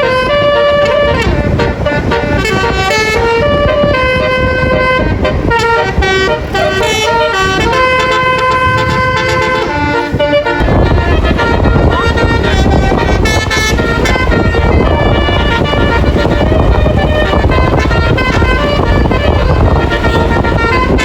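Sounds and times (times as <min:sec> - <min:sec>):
low engine rumble: 0:00.0 - 0:21.0
multi-tone bus horn tune: 0:00.0 - 0:21.0.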